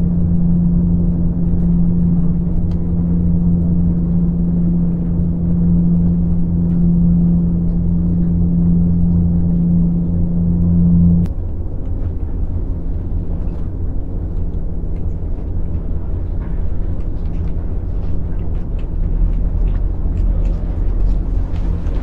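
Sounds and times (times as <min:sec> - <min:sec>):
humming tone: 0:00.0 - 0:22.0
low rumble: 0:00.0 - 0:22.0.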